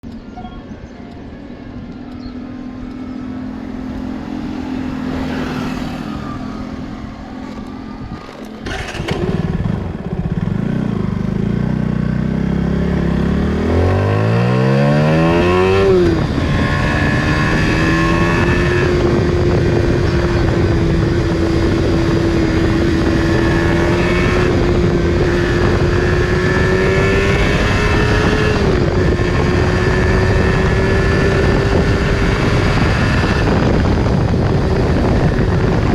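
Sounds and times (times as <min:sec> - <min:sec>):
motorcycle engine revving: 0:02.4 - 0:35.9.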